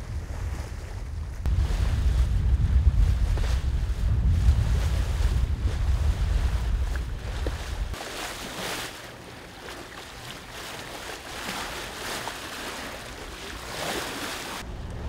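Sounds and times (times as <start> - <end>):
water splashing along hull: 0.0 - 15.0.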